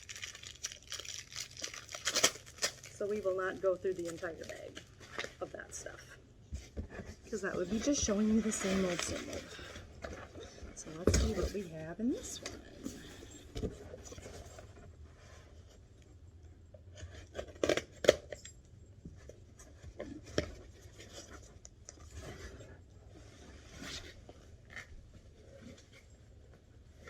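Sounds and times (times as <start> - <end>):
packaging rustling and scraping: 0.0 - 16.0, 16.9 - 18.5, 19.2 - 27.0.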